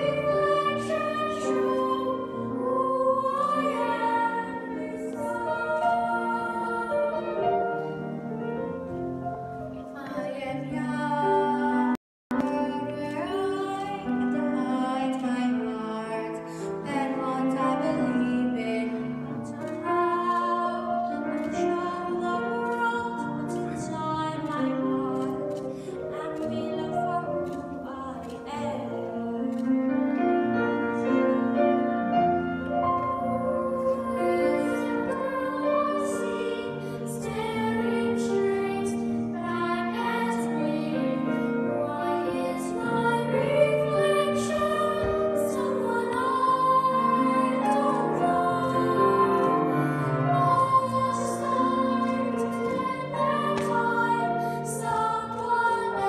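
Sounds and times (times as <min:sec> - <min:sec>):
girls singing into microphones: 0:00.0 - 0:08.7, 0:09.9 - 0:29.7, 0:32.6 - 0:56.0
musical accompaniment: 0:00.0 - 0:56.0.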